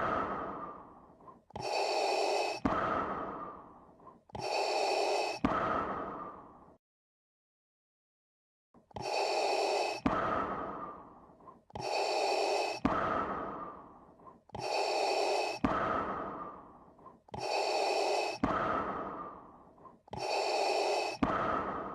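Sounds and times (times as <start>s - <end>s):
breathing through a gas mask: 0.0s - 6.7s, 8.9s - 21.9s.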